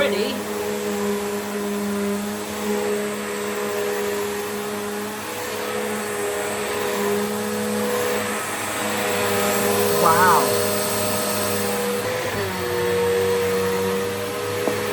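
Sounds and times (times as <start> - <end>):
vacuum cleaner on carpet: 0.0 - 14.9.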